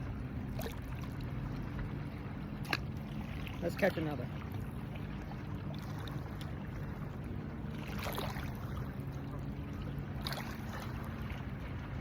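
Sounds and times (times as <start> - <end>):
low motor hum: 0.0 - 12.0
water noise: 0.0 - 12.0.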